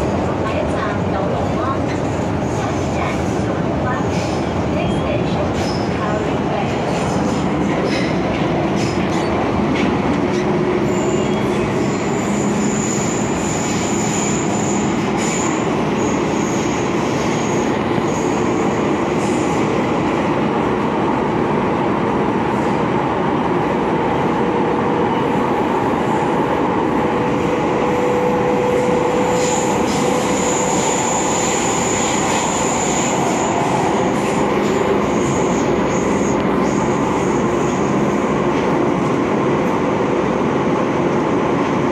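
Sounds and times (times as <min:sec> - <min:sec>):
train rumble: 0:00.0 - 0:41.9.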